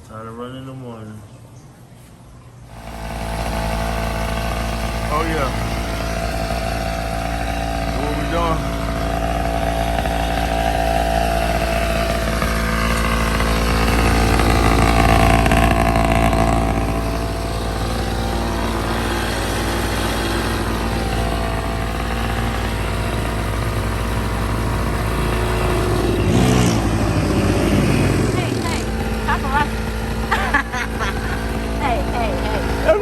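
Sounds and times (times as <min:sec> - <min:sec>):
small two-stroke engine running: 0:02.7 - 0:33.0.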